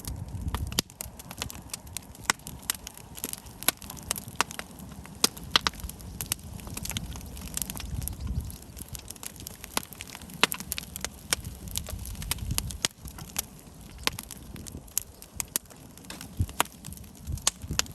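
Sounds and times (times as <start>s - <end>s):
campfire crackling and popping: 0.0s - 17.9s.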